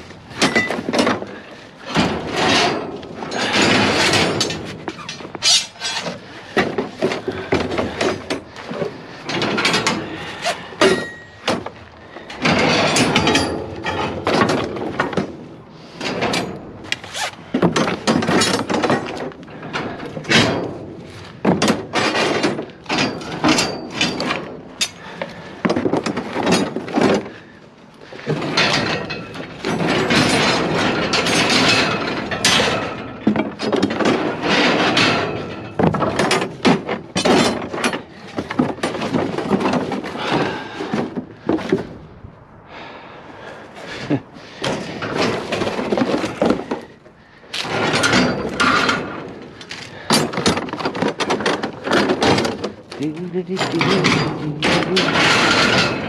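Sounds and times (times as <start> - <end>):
scrap metal clanking and scraping: 0.0 - 42.2, 43.4 - 56.0.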